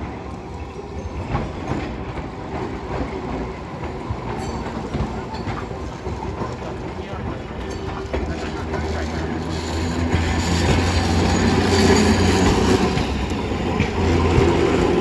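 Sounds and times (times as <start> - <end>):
streetcar rumbling: 0.0 - 15.0
wheels clacking over rail joints: 1.1 - 15.0.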